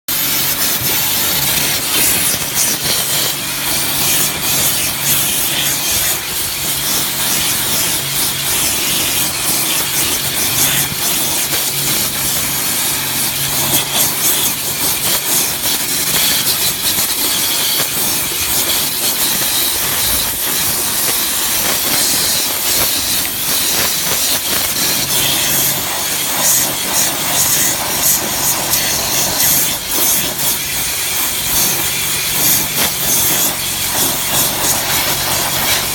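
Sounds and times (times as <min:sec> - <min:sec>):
pressure washer spray on metal: 0:00.1 - 0:35.9.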